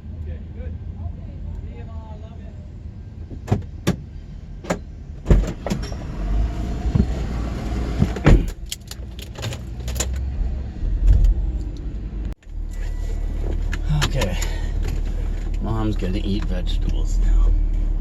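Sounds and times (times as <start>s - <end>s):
low rumble of car: 0.0s - 18.0s.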